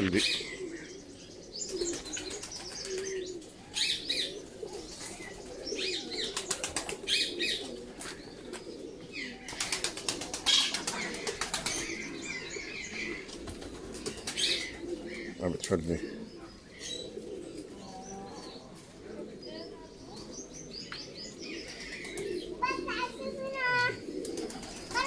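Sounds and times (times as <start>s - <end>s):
birds chirping: 0.0s - 25.0s
low cooing: 0.0s - 25.0s.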